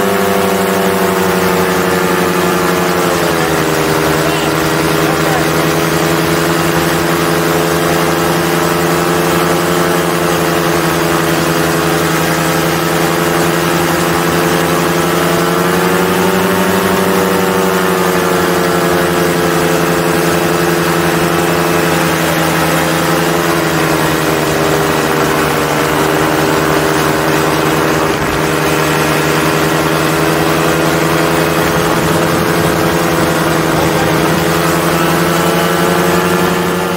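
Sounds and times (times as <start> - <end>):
paramotor engine and propeller: 0.0 - 36.9.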